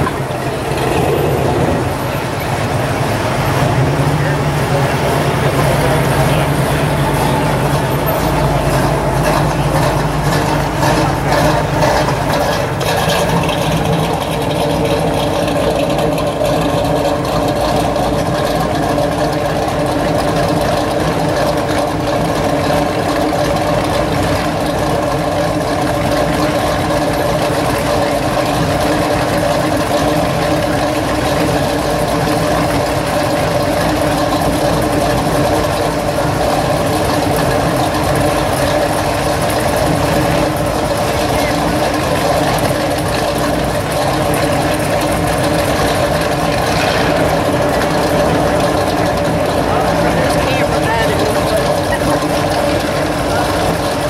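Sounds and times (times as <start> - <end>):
cars idling past: 0.0 - 54.0.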